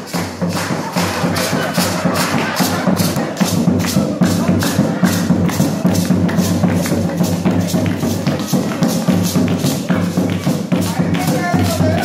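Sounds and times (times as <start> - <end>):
fast drum beat: 0.0 - 12.0.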